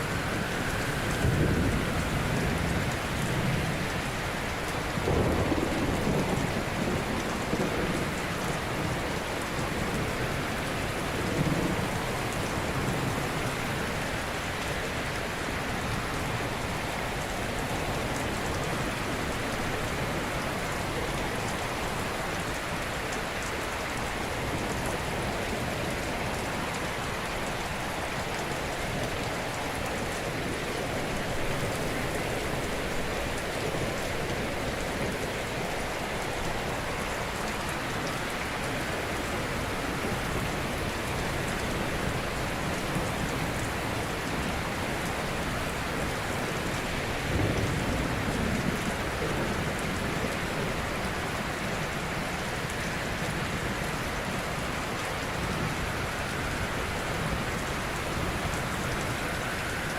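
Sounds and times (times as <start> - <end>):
ocean surf washing on shore: 0.0 - 59.9.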